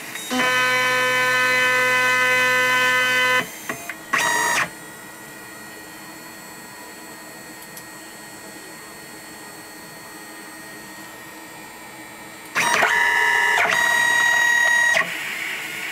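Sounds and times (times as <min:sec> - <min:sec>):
machine motor whine: 0:00.0 - 0:15.9.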